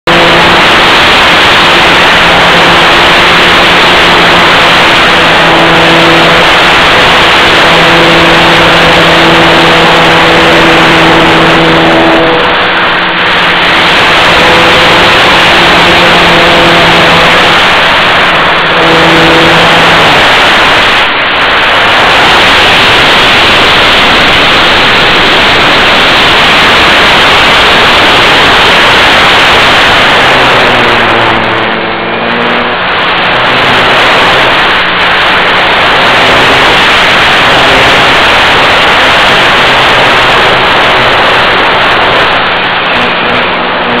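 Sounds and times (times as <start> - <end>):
propeller aircraft in flight: 0.0 - 44.0.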